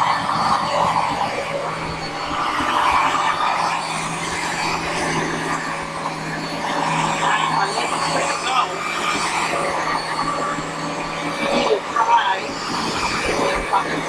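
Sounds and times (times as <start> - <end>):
carpet washer motor drone: 0.0 - 14.0.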